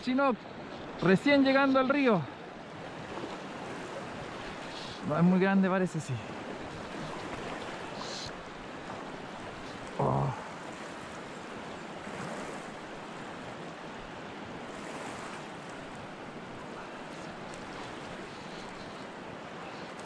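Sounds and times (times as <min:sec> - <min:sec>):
river current rushing: 0:00.0 - 0:20.0.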